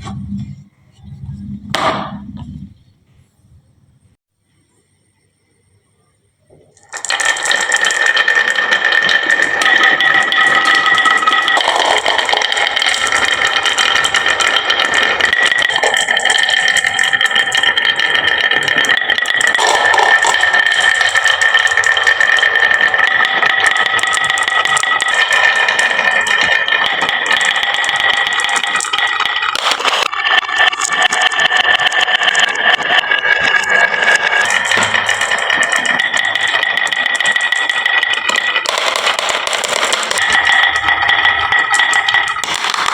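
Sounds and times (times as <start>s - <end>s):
marbles rattling down wooden run: 6.8s - 42.9s.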